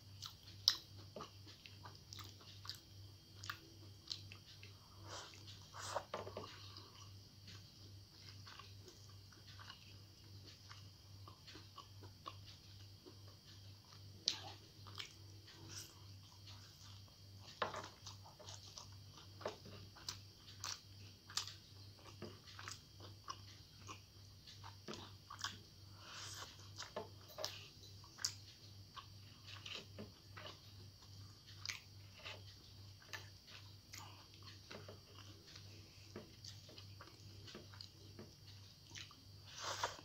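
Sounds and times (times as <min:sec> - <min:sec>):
faint low hum: 0:00.0 - 0:40.0
crunching and chewing: 0:00.1 - 0:40.0.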